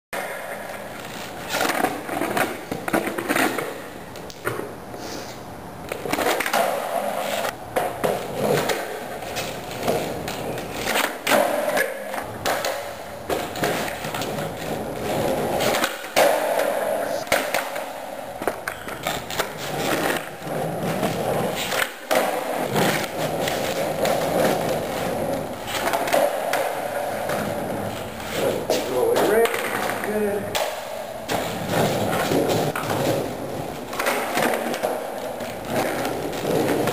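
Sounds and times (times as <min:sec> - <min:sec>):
skateboard wheels rolling: 0:00.2 - 0:36.9
skateboard clacking: 0:05.8 - 0:36.9.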